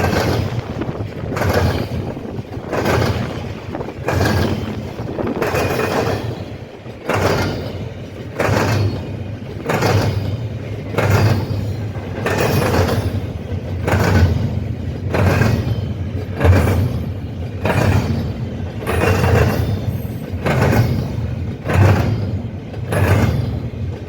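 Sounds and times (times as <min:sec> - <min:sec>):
train low rumble: 0:00.0 - 0:24.0
train wheels banging over crossing: 0:00.0 - 0:24.0.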